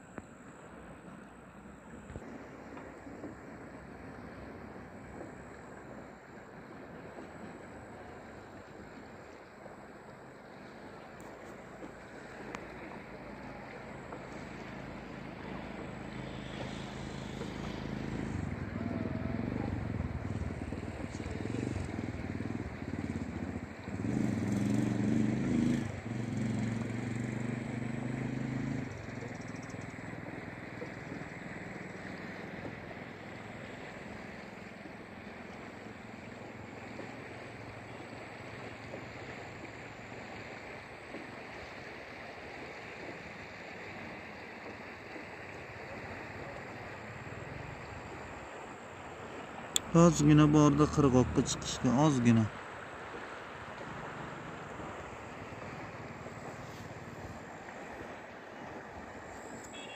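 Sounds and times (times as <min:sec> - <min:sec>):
boat engine running: 0:00.0 - 0:59.9
moving river water: 0:00.0 - 0:59.9
wind: 0:00.0 - 0:59.9.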